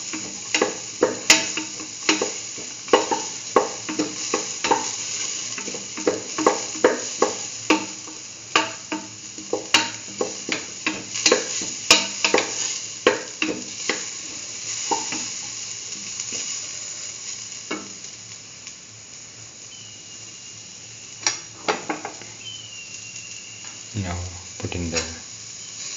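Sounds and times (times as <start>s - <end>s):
vegetables sizzling in a pan: 0.0s - 25.9s.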